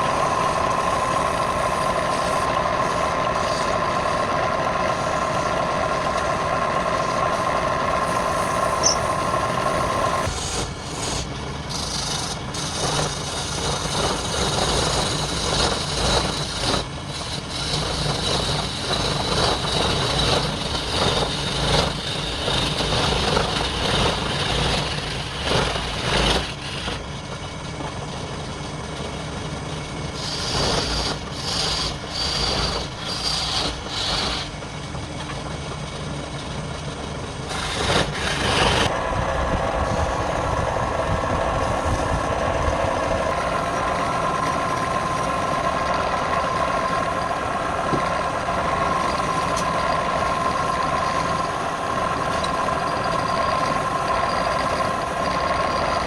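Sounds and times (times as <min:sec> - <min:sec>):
tool scraping spinning wood: 0:00.0 - 0:56.0
wood lathe motor hum: 0:00.0 - 0:56.0.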